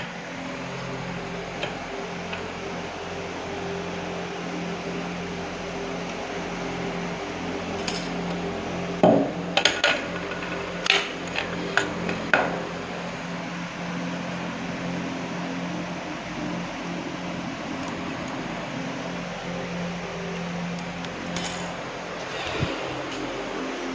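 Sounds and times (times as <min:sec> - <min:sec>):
mechanical hum: 0:00.0 - 0:23.9.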